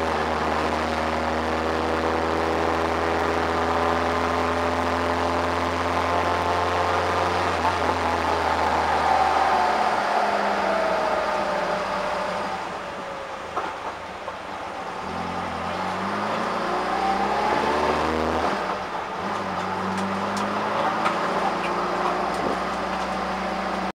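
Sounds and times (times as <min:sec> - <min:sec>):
car engine from inside cabin: 0:00.0 - 0:23.9.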